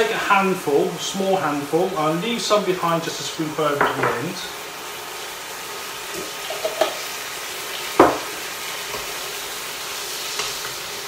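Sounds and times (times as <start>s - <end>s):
stir-fry sizzling in a wok: 0.0s - 11.0s.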